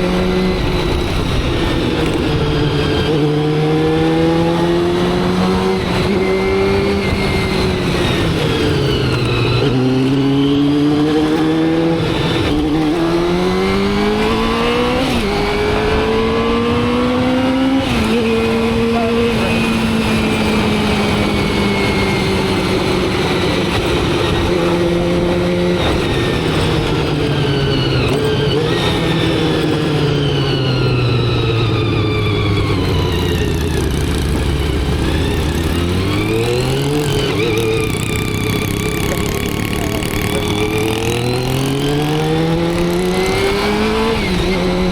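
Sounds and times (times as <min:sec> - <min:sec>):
motorcycle engine upshifting: 0:00.0 - 0:44.9.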